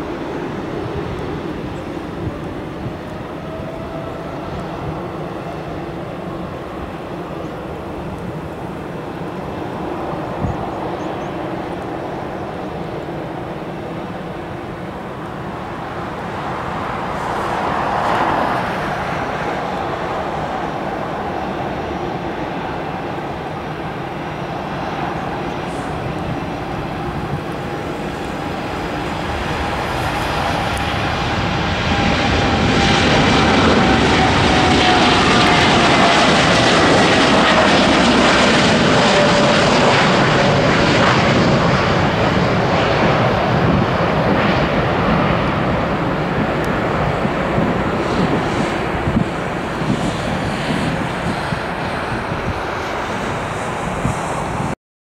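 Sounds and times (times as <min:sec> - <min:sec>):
jet airliner roaring: 0:00.0 - 0:54.8.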